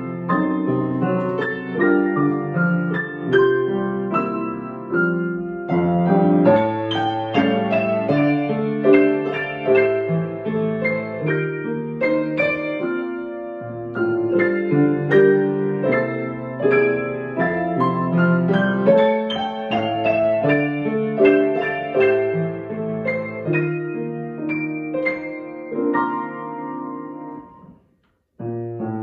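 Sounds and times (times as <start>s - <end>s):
piano duet: 0.0s - 29.0s.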